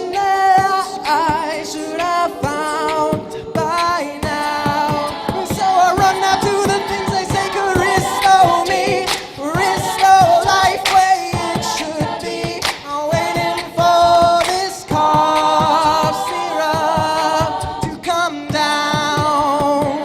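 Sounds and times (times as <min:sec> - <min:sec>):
group singing in close harmony: 0:00.0 - 0:20.0
vocal percussion hits: 0:00.0 - 0:20.0.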